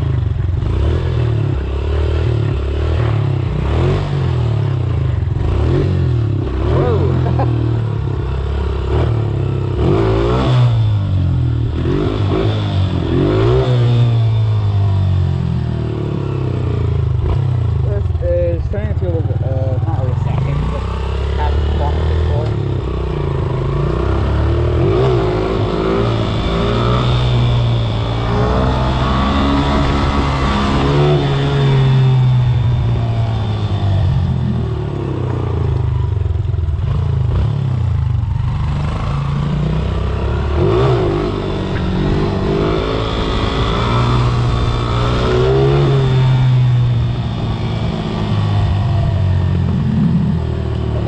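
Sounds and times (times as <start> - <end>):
dirt bike engine revving: 0.0 - 15.3, 19.0 - 35.7, 36.7 - 51.0.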